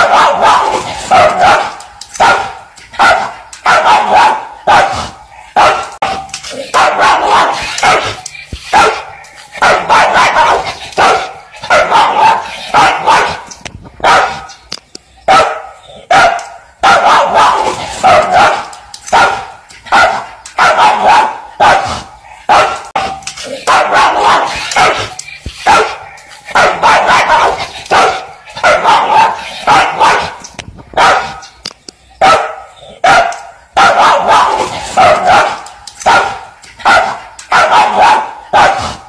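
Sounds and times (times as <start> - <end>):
dog barking loudly: 0.0 - 14.6, 15.3 - 31.6, 32.2 - 39.0.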